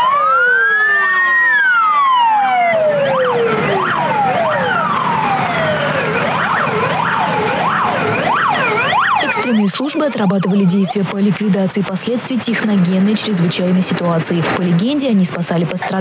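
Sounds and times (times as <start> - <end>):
fire engine sirens wailing: 0.0 - 16.0
siren yelps: 0.0 - 16.0.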